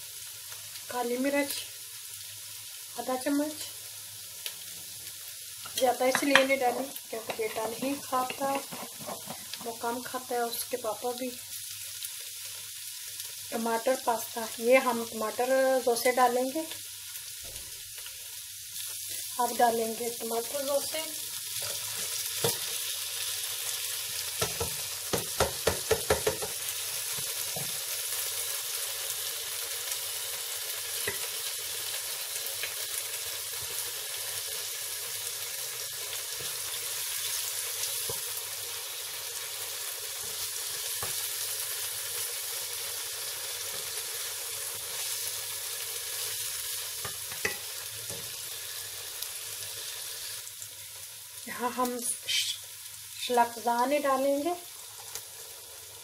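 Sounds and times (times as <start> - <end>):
meat sizzling in a pot: 0.0 - 56.0.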